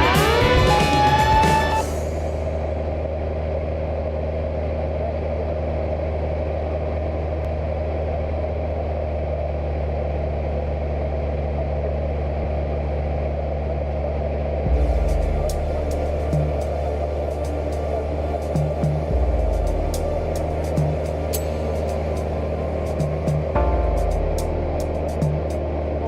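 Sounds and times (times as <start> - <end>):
light aircraft engine droning: 0.0 - 26.0.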